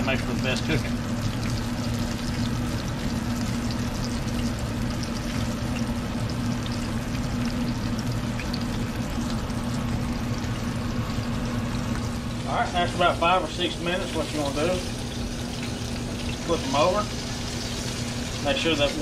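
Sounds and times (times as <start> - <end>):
meat sizzling in oil: 0.0 - 19.0.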